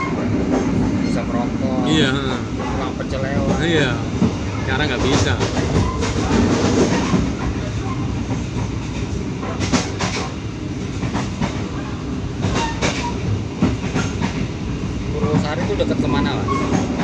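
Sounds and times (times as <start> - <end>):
train rolling rumble: 0.0 - 17.0
wheels clacking on rail joints: 2.6 - 14.5, 15.2 - 17.0.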